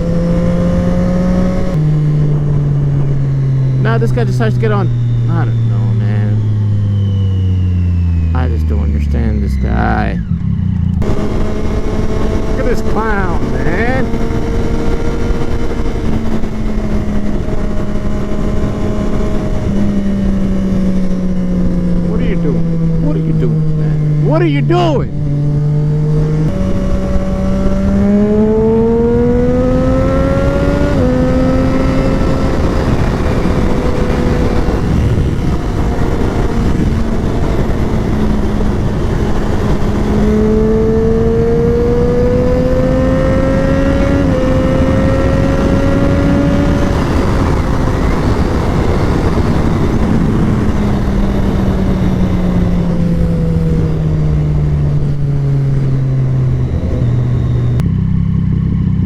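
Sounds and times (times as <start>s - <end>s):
motorcycle engine accelerating: 0.0s - 59.0s
wind and road noise: 0.0s - 59.0s.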